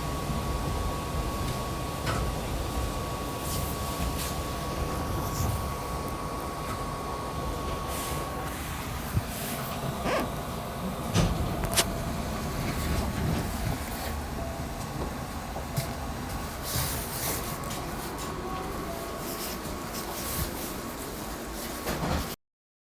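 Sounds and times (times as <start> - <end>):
train low rumble: 0.0 - 22.3.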